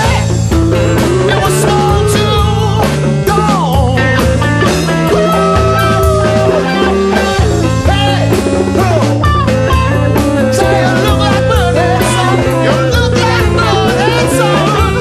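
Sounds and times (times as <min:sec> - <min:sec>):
bass notes: 0:00.0 - 0:15.0
drums: 0:00.0 - 0:15.0
electric guitar lines: 0:00.0 - 0:15.0.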